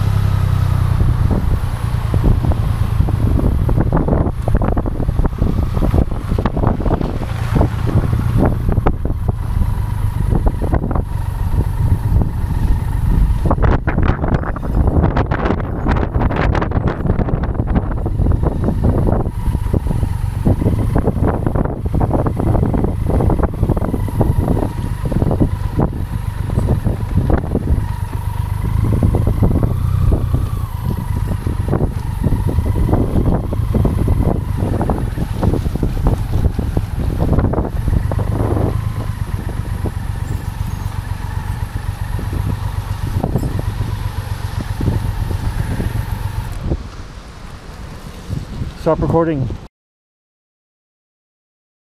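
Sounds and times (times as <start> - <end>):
motorcycle engine running: 0.0 - 49.3
wind buffeting microphone: 0.0 - 49.6.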